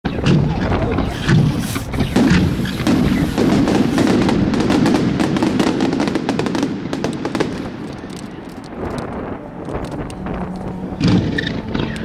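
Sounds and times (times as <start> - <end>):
firework shells bursting: 1.1 - 11.6.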